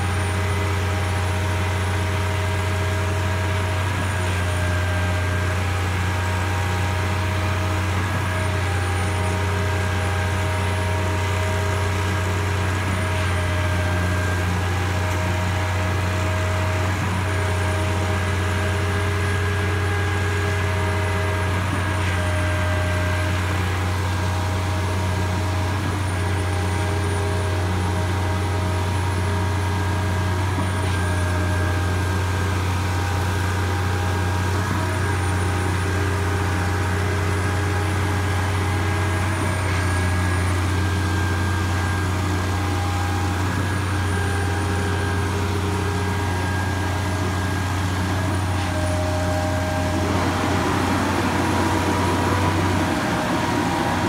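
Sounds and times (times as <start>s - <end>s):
concrete pump truck running: 0.0s - 54.0s.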